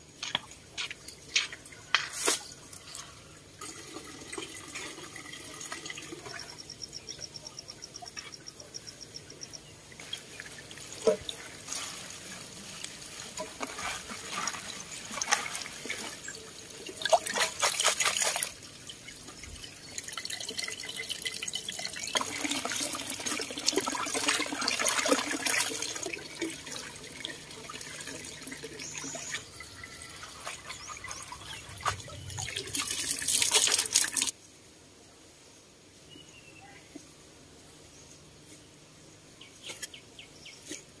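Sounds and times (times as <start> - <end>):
water trickling into stone basin: 1.0 - 34.4.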